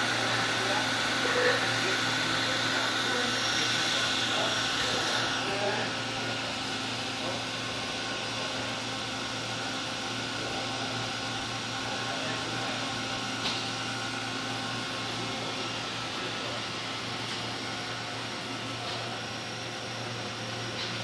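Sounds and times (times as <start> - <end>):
electric motor humming and whirring: 0.0 - 21.0.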